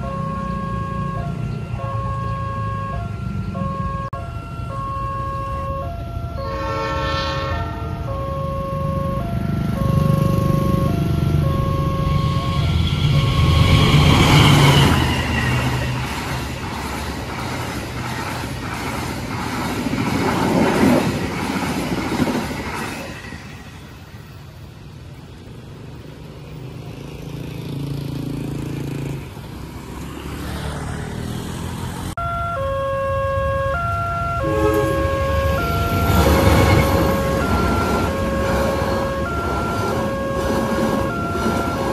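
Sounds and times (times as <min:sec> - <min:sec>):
crossing warning siren: 0:00.0 - 0:23.6, 0:30.0 - 0:41.9
train rumble and wheel noise: 0:00.0 - 0:29.8, 0:32.2 - 0:41.9.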